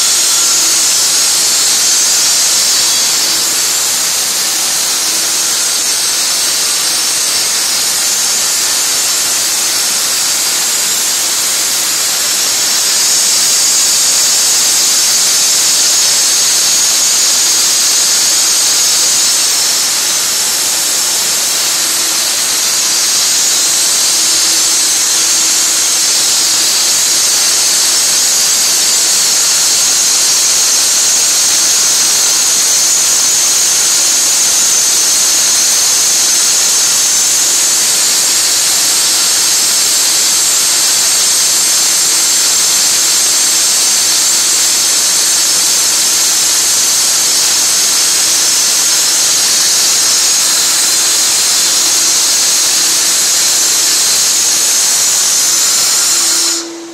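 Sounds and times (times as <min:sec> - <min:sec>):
concrete saw cutting: 0:00.0 - 0:56.9
dust vacuum running: 0:00.0 - 0:56.9.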